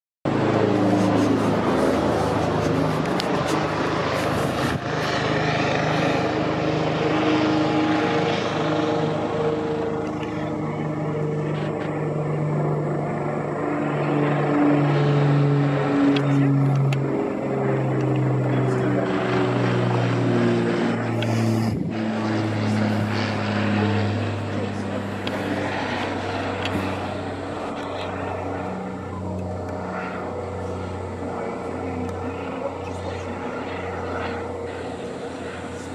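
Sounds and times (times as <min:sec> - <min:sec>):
helicopter flying overhead: 0:00.3 - 0:35.9.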